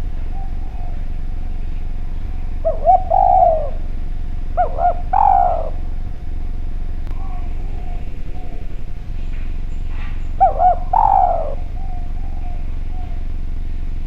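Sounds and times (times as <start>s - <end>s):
dove cooing: 0.0s - 13.7s
low steady hum: 0.0s - 14.0s.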